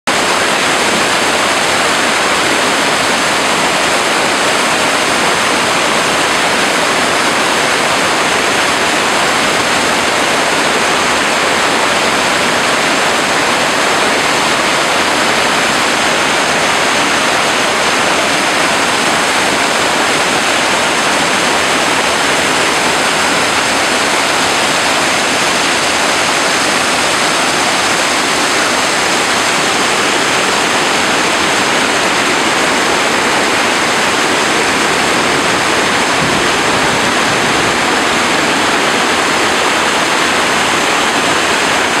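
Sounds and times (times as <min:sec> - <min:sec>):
stream rushing over boulders: 0:00.1 - 0:42.0.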